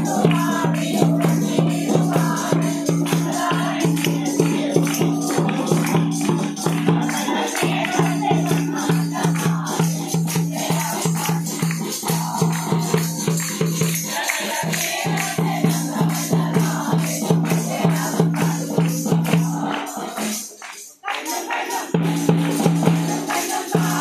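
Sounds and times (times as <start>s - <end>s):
group singing: 0.0s - 24.0s
tambourine shaking: 0.0s - 24.0s.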